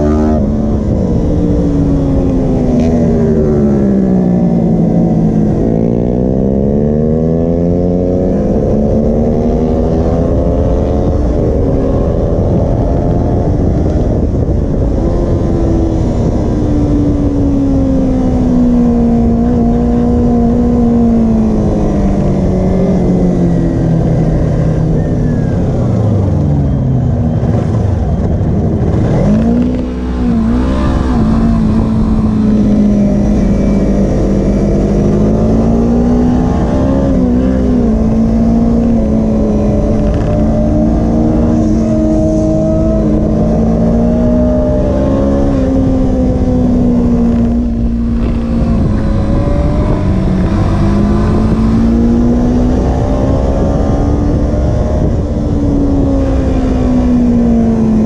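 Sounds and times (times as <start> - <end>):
motorcycle engine at speed: 0.0 - 58.0
wind rushing on microphone: 0.0 - 58.0.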